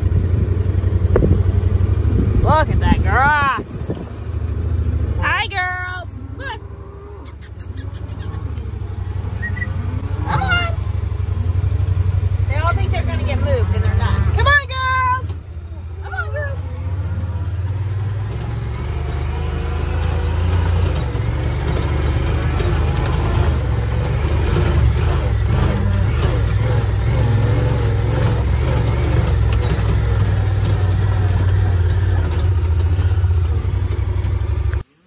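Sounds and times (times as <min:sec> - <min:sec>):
utility vehicle engine droning: 0:00.0 - 0:35.0.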